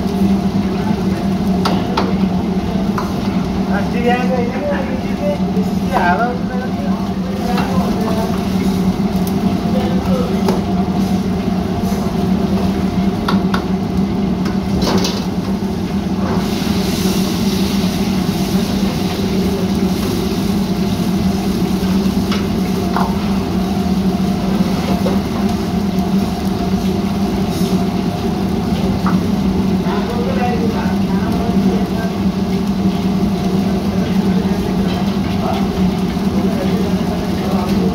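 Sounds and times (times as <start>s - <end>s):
frying sizzle: 0.0s - 37.9s
gas range and extraction drone: 0.0s - 37.9s.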